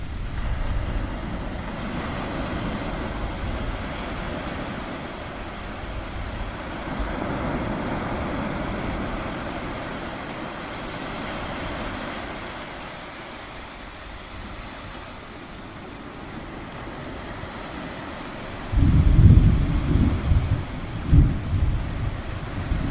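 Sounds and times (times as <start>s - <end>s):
waves breaking with low rumble: 0.0s - 22.9s.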